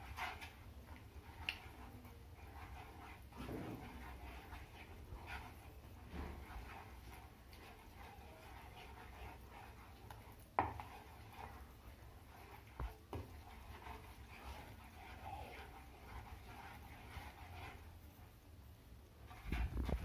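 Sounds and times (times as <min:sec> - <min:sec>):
spatula scraping frying pan: 0:00.0 - 0:18.3, 0:19.2 - 0:20.0.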